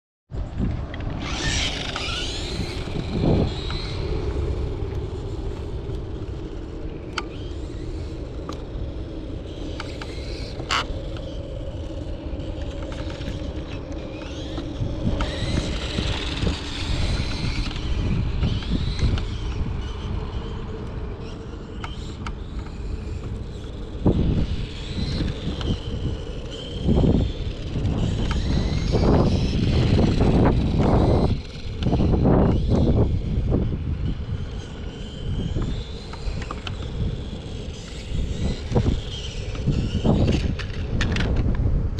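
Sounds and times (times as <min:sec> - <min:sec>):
wind rumbling on microphone: 0:00.3 - 0:41.9
electric motor whining: 0:00.4 - 0:41.9.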